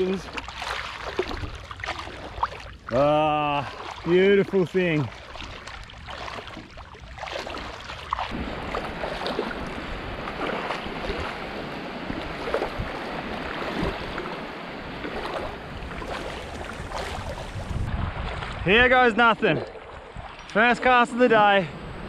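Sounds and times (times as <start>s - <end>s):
footsteps splashing in shallow water: 0.0s - 18.7s, 19.3s - 20.9s.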